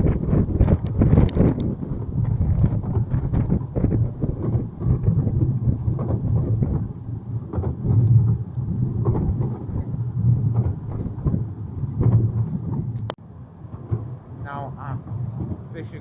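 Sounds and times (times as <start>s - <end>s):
train rumbling on track: 0.0s - 16.0s
wheels and carriage clattering: 0.0s - 16.0s.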